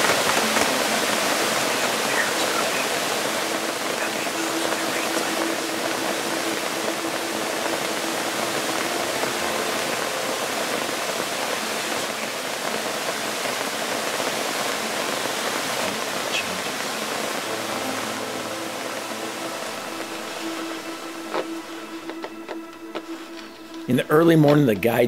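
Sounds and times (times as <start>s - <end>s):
rain pouring: 0.0s - 25.0s.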